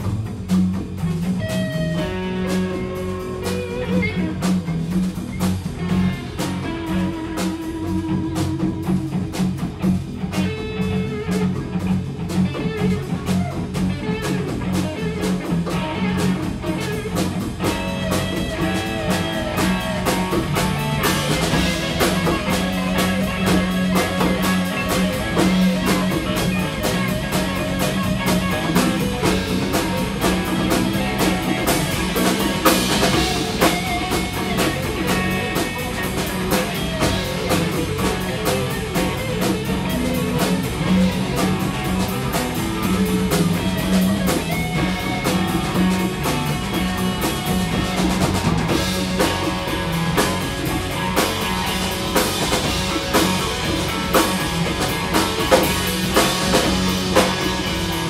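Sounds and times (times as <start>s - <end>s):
drum kit steady beat: 0.0s - 58.0s
electric bass: 0.0s - 58.0s
electric guitars: 0.0s - 58.0s.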